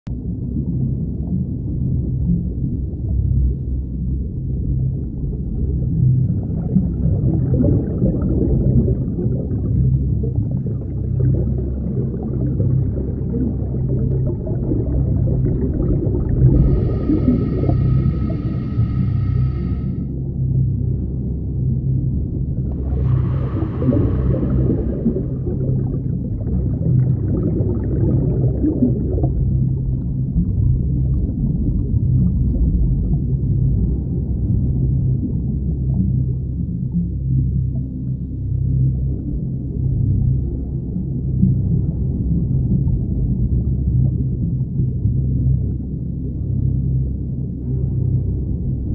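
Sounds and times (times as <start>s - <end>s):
muffled underwater rumble: 0.0s - 48.9s
steady low hum: 0.1s - 48.9s
diver's exhaled air bubbling: 0.2s - 20.2s, 22.2s - 45.8s.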